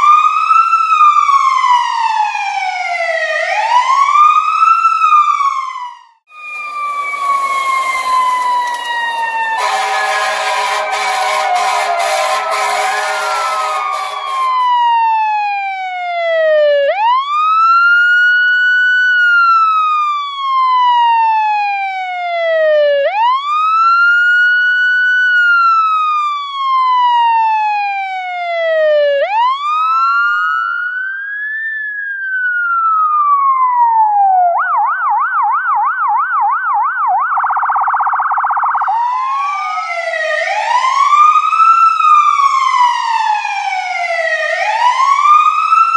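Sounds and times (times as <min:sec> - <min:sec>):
fire truck siren: 0:00.0 - 0:45.9.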